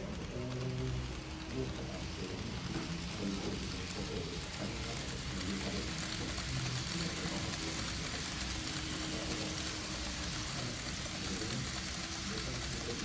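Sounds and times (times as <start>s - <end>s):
model train wheels rattling: 0.0s - 13.0s.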